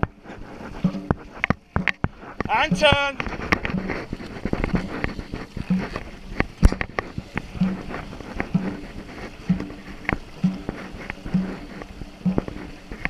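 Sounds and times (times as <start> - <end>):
drum beating: 0.0 - 13.0
paddles splashing and knocking: 0.0 - 13.0.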